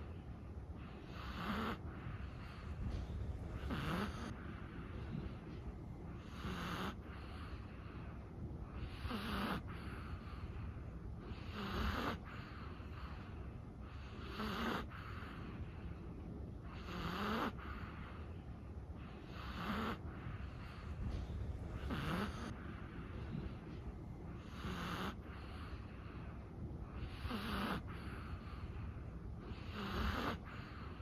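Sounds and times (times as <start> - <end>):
dog snoring: 0.8 - 15.8, 16.6 - 18.4, 19.0 - 31.0.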